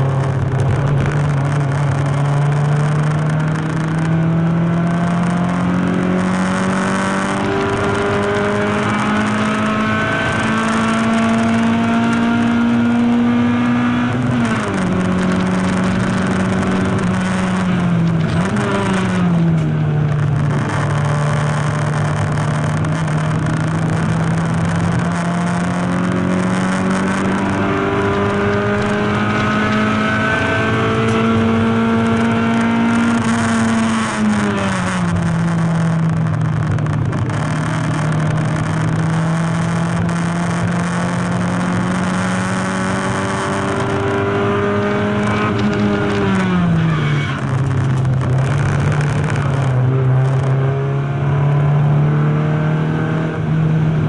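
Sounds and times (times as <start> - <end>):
race car engine: 0.0 - 54.0
road and wind rush: 0.0 - 54.0.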